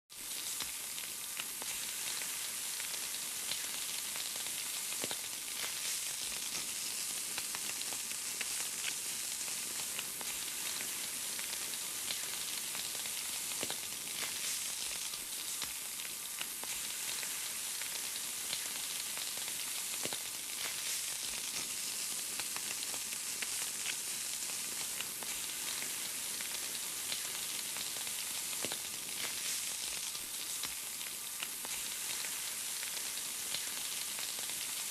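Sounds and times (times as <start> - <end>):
chicken sizzling on a grill: 0.1 - 34.9.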